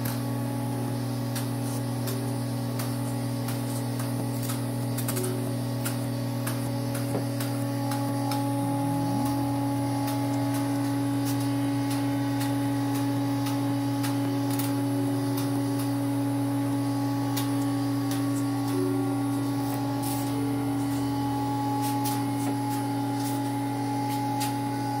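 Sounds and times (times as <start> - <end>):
vacuum pump humming: 0.0 - 25.0.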